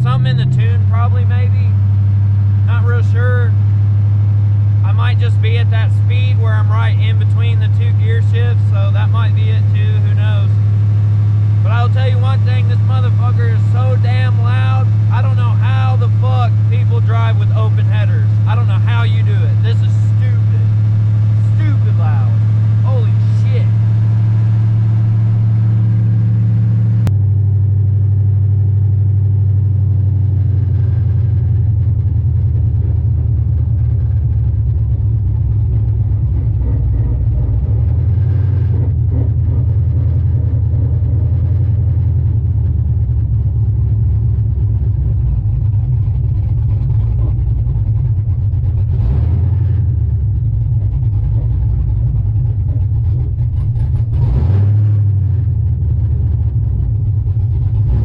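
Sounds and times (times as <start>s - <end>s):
loud vee eight engine drone: 0.0s - 55.8s.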